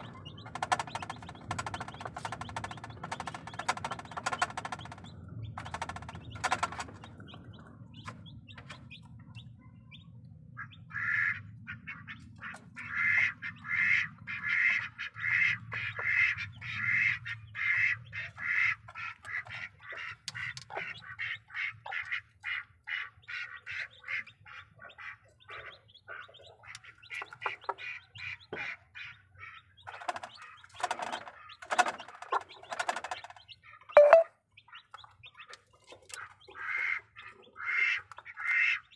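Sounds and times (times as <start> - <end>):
hen and chicks calling: 0.0 - 38.9.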